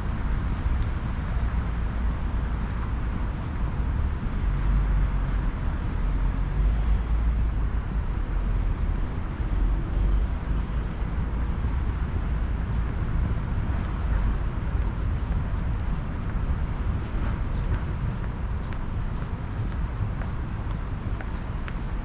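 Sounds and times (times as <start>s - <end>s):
traffic noise: 0.0s - 22.0s
wind rumble on microphone: 0.0s - 22.0s.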